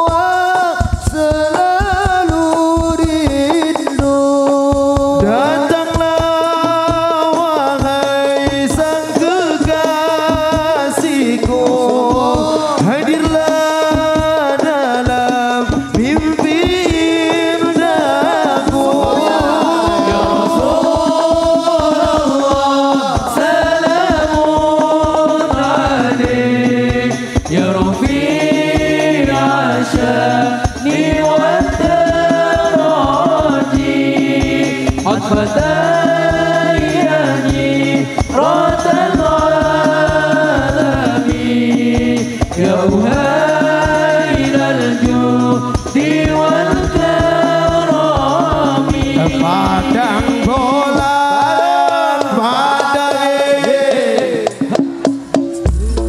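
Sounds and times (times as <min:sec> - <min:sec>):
man singing into a microphone: 0:00.0 - 0:55.0
hand drum percussion: 0:00.0 - 0:56.0.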